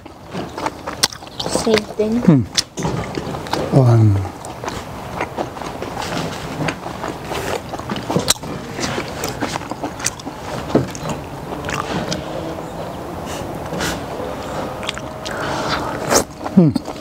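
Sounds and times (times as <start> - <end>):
chewing and mouth clicks: 0.0 - 17.0.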